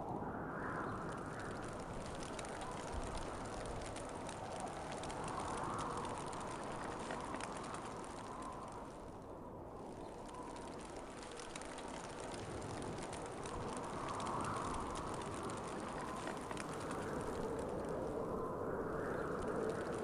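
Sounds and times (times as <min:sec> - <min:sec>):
wind blowing in gusts: 0:00.0 - 0:20.0.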